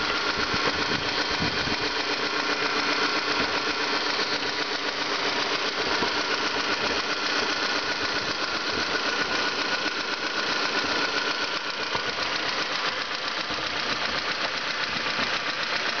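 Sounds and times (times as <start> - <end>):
car engine clattering: 0.0 - 16.0.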